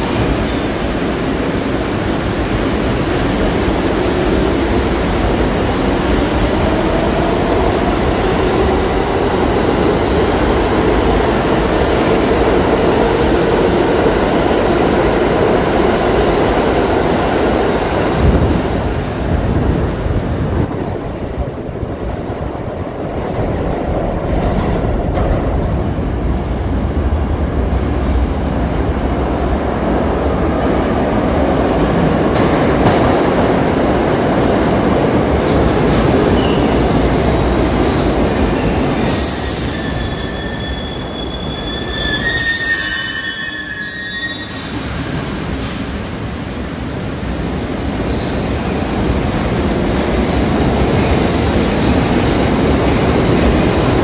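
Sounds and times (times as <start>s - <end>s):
subway train wheel and motor noise: 0.0s - 54.0s.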